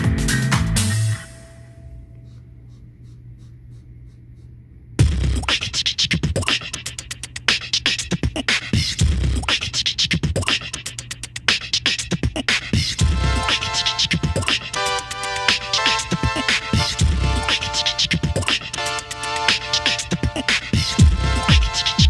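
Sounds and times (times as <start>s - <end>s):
beatbox-style beat with heavy bass: 2.3s - 22.0s.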